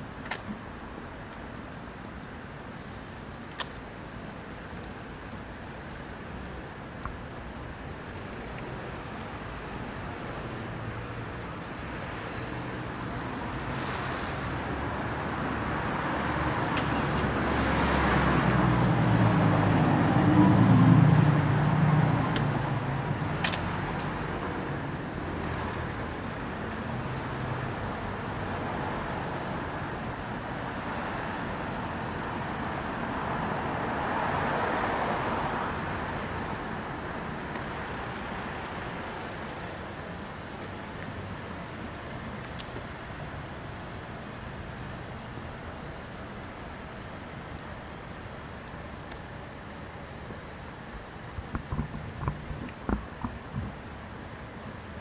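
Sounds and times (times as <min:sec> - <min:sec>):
background traffic: 0:00.0 - 0:55.0.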